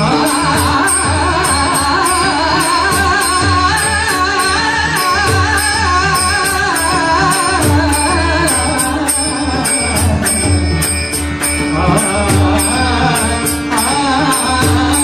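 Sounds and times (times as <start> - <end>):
hand cymbals struck in a steady beat: 0.0 - 15.0.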